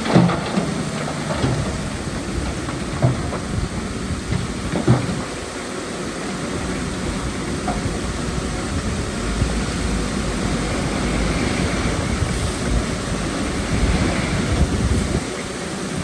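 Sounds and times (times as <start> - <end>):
heavy diesel machinery rumbling: 0.0 - 16.0.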